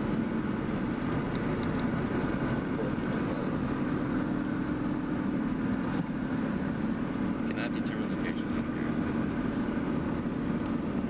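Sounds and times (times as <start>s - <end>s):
car engine hum: 0.0s - 11.0s.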